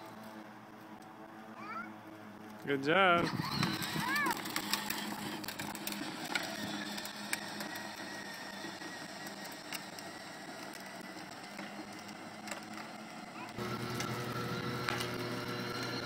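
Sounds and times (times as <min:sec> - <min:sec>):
toy truck electric motor whirring: 0:01.6 - 0:16.0.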